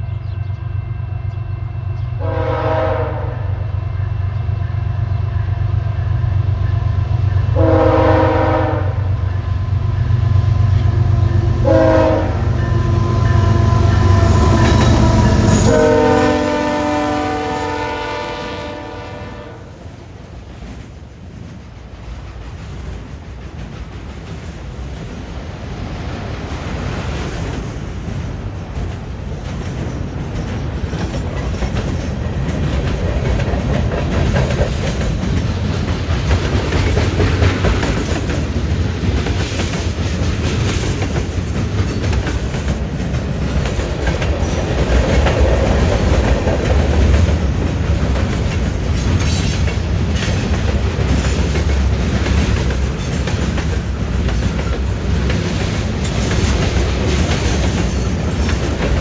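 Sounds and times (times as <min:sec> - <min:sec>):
freight train rumbling past: 0:00.0 - 0:59.0
wheels clacking over rail joints: 0:09.3 - 0:59.0.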